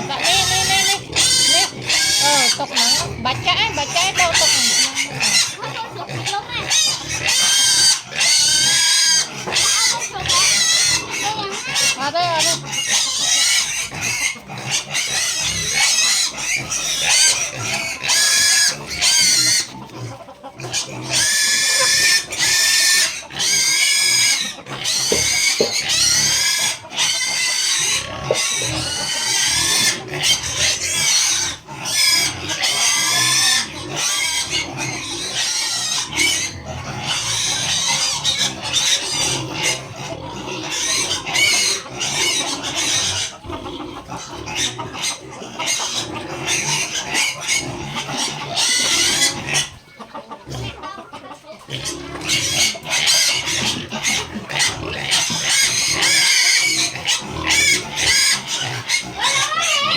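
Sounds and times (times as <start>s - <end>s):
chickens calling: 0.0s - 59.9s
chicks peeping: 0.0s - 59.9s.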